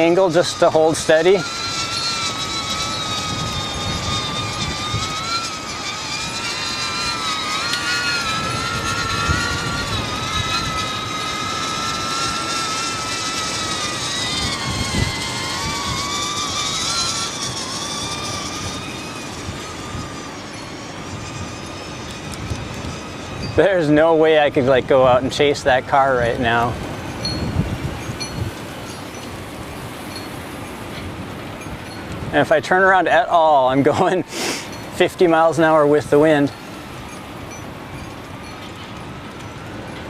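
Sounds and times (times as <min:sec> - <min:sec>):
drone motors whining: 0:00.0 - 0:40.0
wind buffeting: 0:00.0 - 0:40.0.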